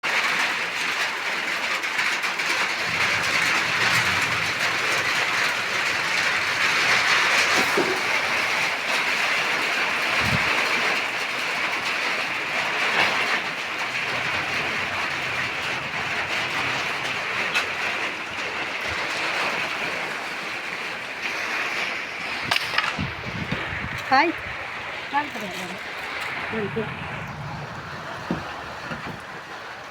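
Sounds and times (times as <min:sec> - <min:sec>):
heavy rain falling: 0:00.0 - 0:29.9
scattered rain taps: 0:00.0 - 0:29.9.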